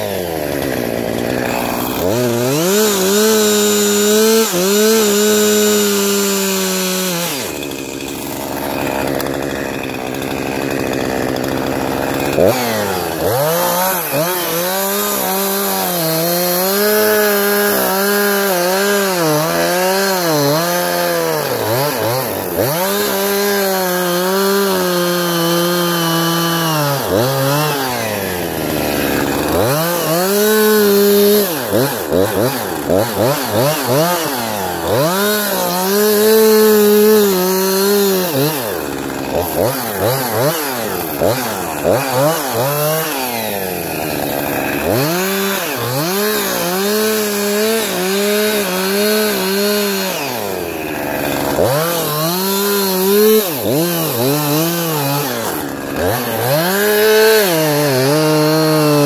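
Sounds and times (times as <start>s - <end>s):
chainsaw engine revving: 0.0s - 59.0s
chainsaw throttle blips: 0.0s - 59.0s.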